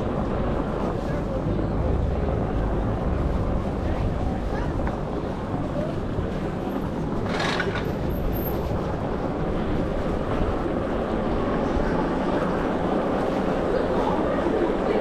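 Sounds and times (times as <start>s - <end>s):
low riding rumble: 0.0s - 15.0s
wind rushing over microphone: 0.0s - 15.0s.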